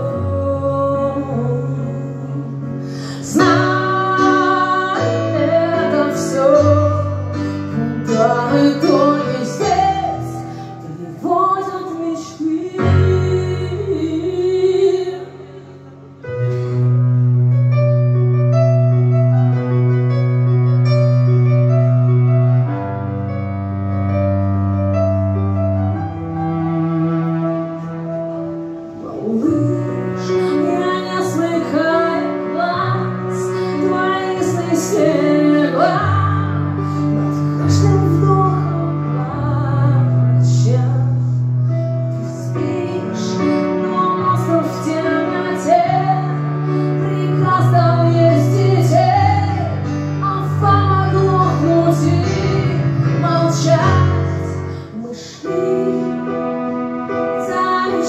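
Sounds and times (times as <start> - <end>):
stage piano low chords: 0.0 - 58.0.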